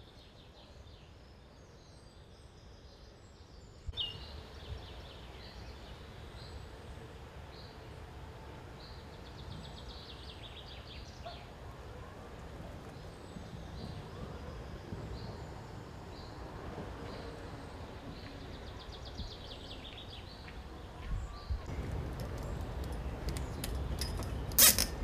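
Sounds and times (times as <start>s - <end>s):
songbird singing: 0.0s - 24.7s.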